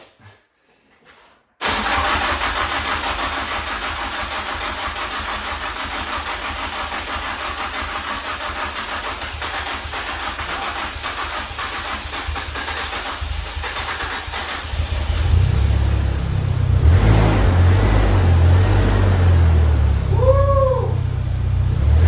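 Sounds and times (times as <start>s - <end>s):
car engine starting and running: 1.6s - 22.0s.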